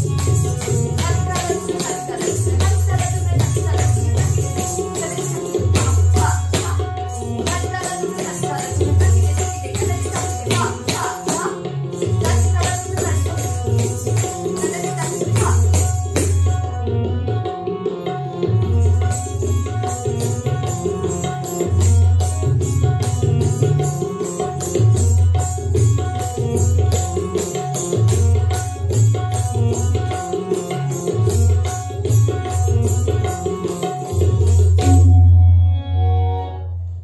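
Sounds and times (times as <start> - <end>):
fast rhythmic tabla strokes: 0.0 - 37.0.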